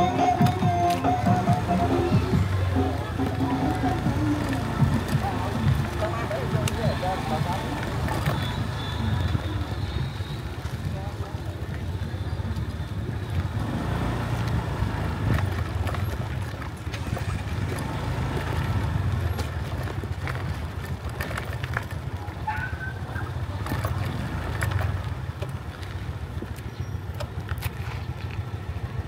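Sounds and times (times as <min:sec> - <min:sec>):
passing traffic rumble: 0:00.0 - 0:29.0.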